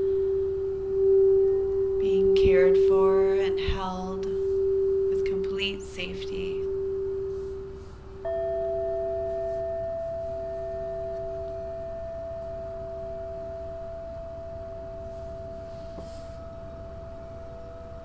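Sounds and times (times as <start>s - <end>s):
singing bowls ringing: 0.0s - 18.0s.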